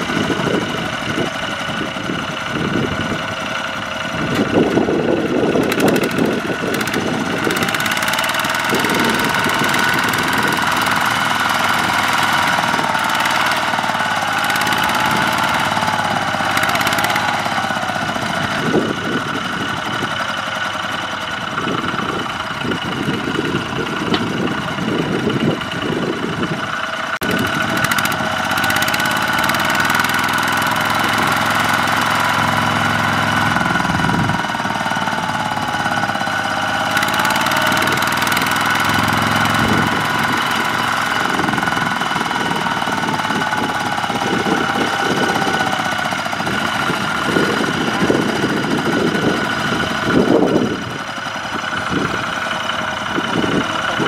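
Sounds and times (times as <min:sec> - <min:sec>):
diesel tractor engine chugging: 0:00.0 - 0:54.0
engine whine: 0:00.0 - 0:54.0.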